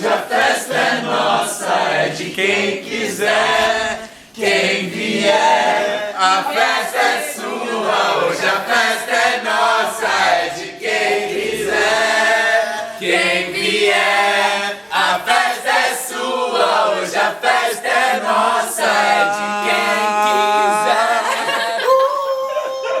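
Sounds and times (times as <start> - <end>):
group singing unaccompanied: 0.0 - 22.0.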